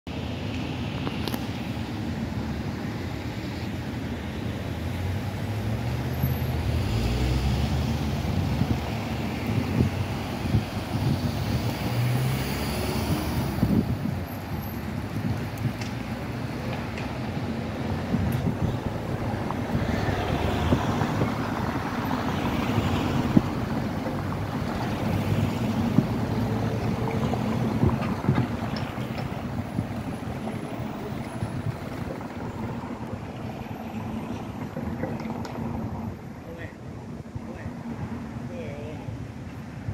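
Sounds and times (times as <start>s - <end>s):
street traffic noise: 0.1s - 39.9s
cars rolling past: 0.4s - 38.5s
tram rumbling on rails: 1.8s - 38.5s.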